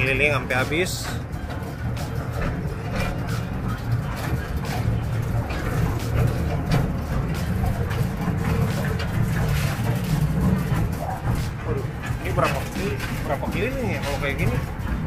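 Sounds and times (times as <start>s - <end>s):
clicks and knocks from train cars: 0.0s - 15.0s
train rumbling on track: 0.0s - 15.0s.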